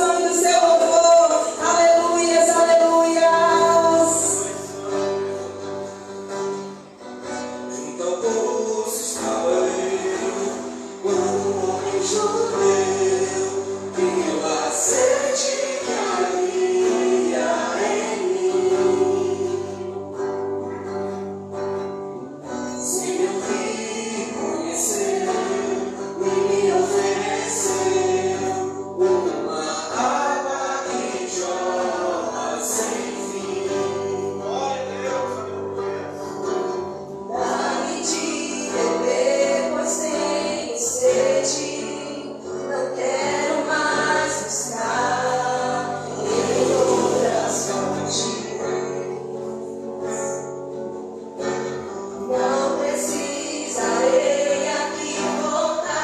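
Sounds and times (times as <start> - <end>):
group of voices singing: 0.0 - 6.6, 7.2 - 56.0
church band playing: 0.0 - 56.0.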